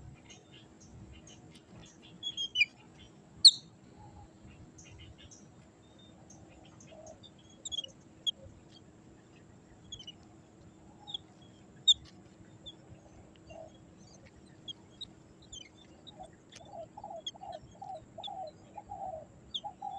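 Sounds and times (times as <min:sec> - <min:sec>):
birds chirping: 0:00.0 - 0:19.9
low repeated bird notes: 0:00.0 - 0:19.9.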